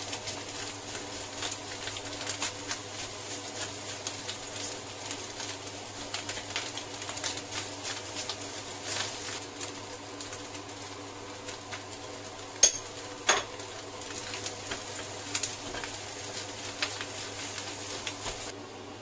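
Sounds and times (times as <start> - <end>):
light sizzle: 0.0 - 19.0.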